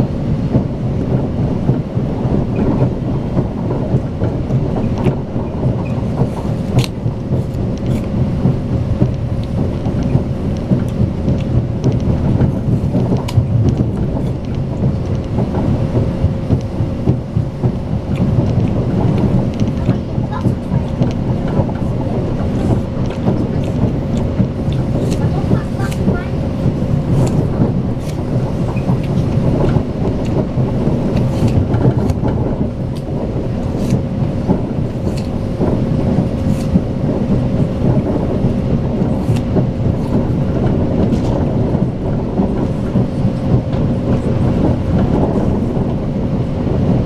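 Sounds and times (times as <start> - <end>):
train rolling rumble: 0.0 - 47.0.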